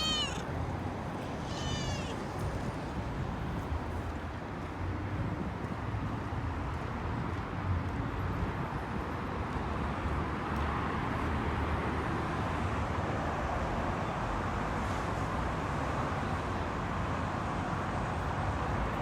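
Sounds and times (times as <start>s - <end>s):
passing vehicles rumble: 0.0s - 19.0s.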